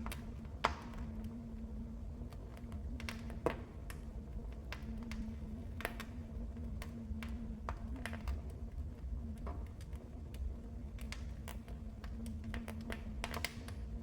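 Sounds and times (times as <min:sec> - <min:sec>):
low rumble of flames: 0:00.0 - 0:14.0
wood fire snaps and pops: 0:00.0 - 0:14.0.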